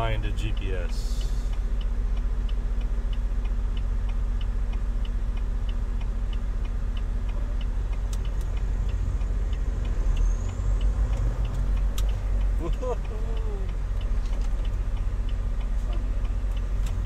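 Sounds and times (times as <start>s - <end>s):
turn signal ticking: 0.0s - 17.0s.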